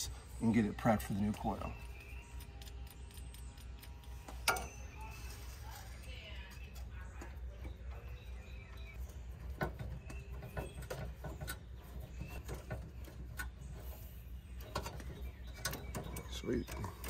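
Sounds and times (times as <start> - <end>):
birds chirping and cooing: 0.0 - 17.0.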